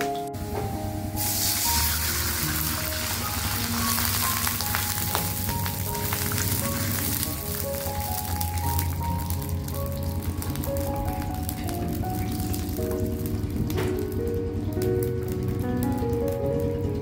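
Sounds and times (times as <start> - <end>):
background music: 0.0 - 17.0
water sizzling in hot oil: 1.2 - 17.0.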